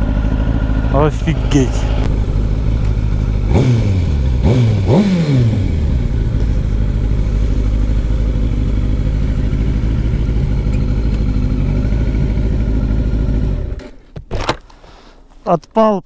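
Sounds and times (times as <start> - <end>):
motorcycle engine running steadily: 0.0 - 13.9.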